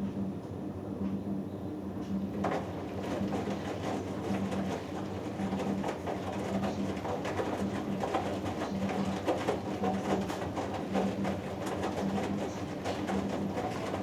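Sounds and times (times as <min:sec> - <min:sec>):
washing machine motor hum: 0:02.1 - 0:14.0
soft knocks of wet laundry: 0:02.4 - 0:14.0.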